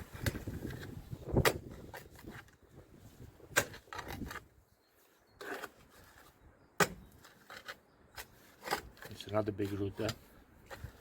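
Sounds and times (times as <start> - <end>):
scraping soil by hand: 0.0 - 11.0.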